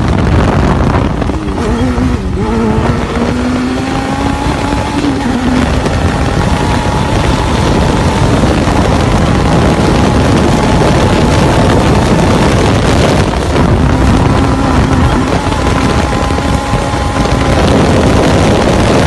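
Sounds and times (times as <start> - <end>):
vehicle engine running: 0.0 - 19.0
wind on microphone: 0.0 - 19.0.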